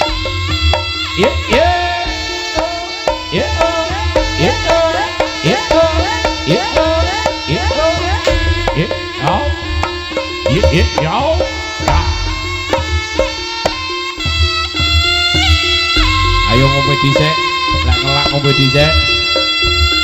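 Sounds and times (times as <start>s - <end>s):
drum strokes rising in pitch: 0.0s - 20.0s
steady held tone: 0.0s - 20.0s
sustained pitched melody: 0.0s - 20.0s.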